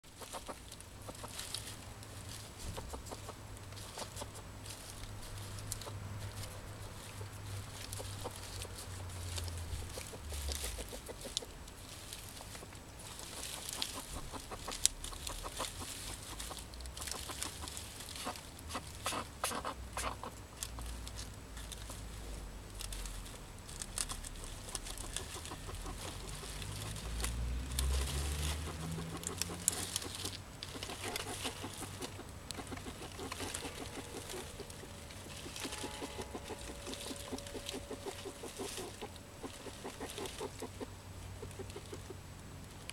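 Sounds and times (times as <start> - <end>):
chickens clucking softly: 0.1 - 1.5, 2.5 - 4.6, 5.6 - 11.6, 12.3 - 20.9, 24.6 - 42.3.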